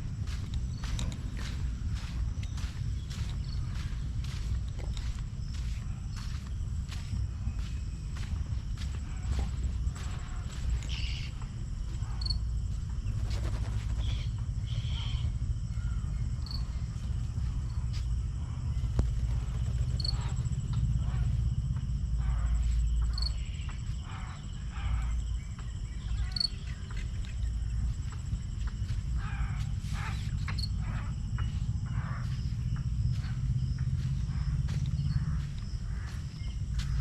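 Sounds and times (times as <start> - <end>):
high insect drone: 0.0 - 37.0
wind rumble on microphone: 0.0 - 37.0.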